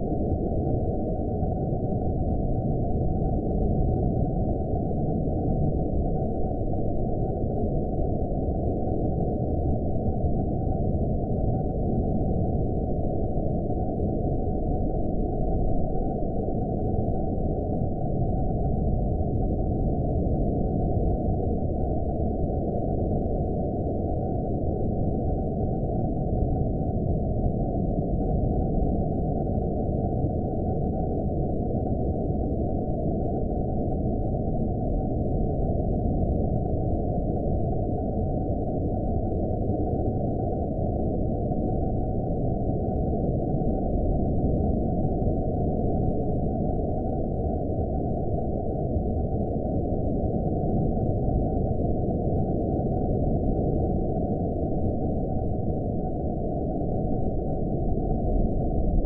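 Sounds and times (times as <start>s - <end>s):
dark low rumbling drone: 0.0s - 59.0s.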